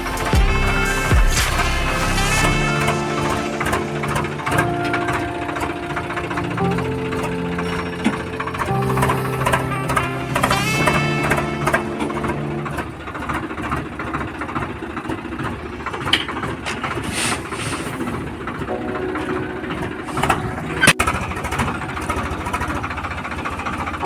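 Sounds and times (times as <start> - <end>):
tractor engine chugging: 0.0 - 24.0.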